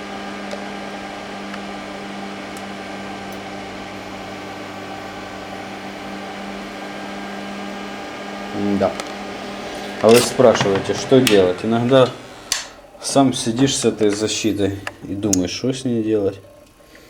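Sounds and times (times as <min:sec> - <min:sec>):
cooling fan rushing: 0:00.0 - 0:17.0
electrical hum: 0:00.0 - 0:17.0.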